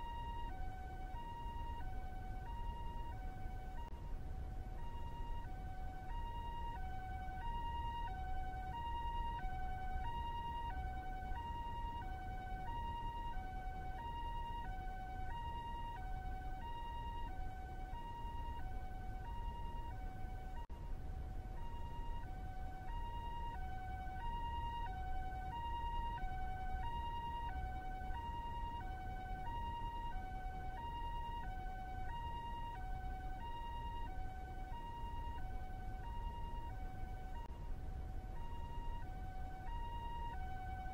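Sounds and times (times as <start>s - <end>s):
two-tone ambulance siren: 0.0s - 40.9s.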